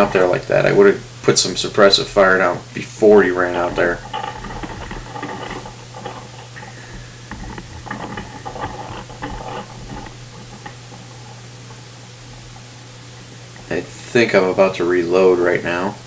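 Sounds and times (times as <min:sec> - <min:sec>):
faint rustling: 0:00.0 - 0:13.8.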